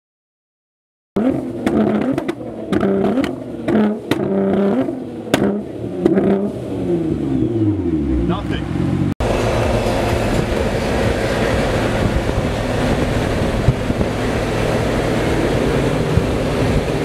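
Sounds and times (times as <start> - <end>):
car engine revving hard: 1.2 - 17.0.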